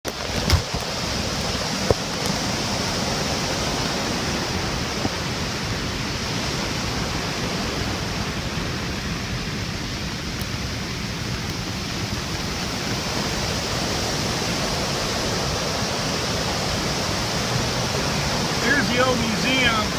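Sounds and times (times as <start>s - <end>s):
floodwater rushing: 0.1s - 19.9s.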